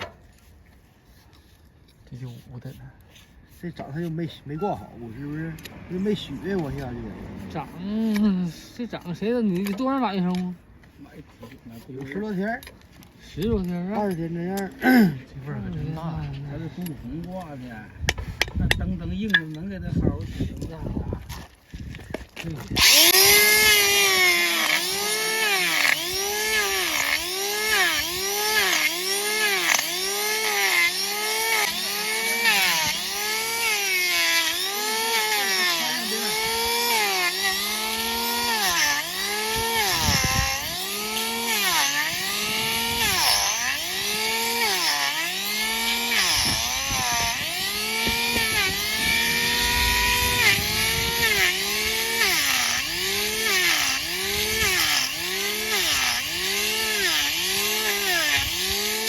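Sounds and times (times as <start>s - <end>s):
power tool grinding hoof: 0.0s - 59.0s.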